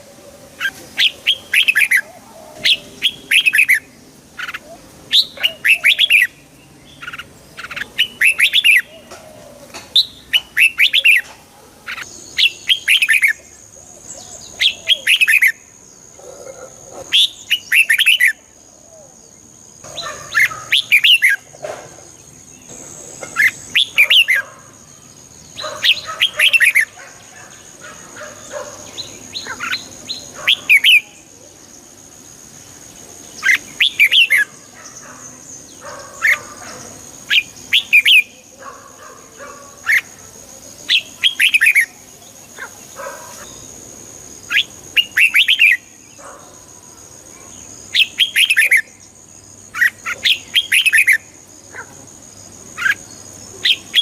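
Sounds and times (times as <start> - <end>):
bird singing warbled phrases: 0.0 - 54.0.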